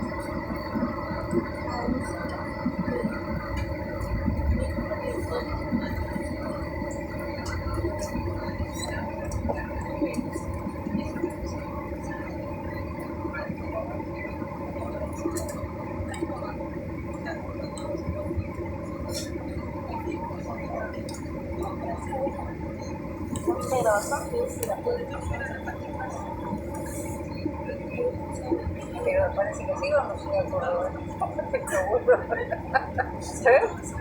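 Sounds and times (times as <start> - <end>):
airliner engines rumbling: 0.0 - 34.0.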